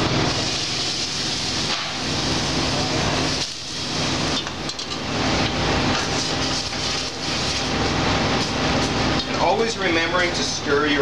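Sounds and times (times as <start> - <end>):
stock bubbling and hissing in pot: 0.0 - 9.9.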